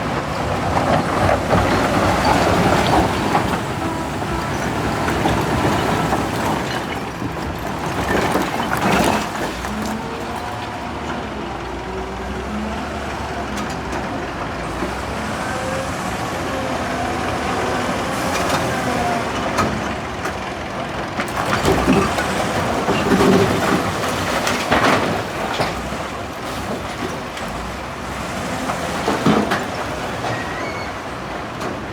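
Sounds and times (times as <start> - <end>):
heavy construction machinery running: 0.0 - 31.9.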